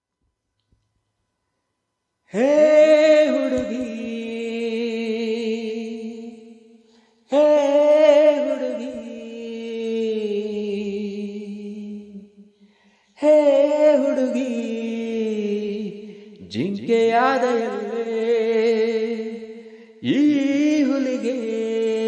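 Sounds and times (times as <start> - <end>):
person singing long held notes: 2.3 - 22.0.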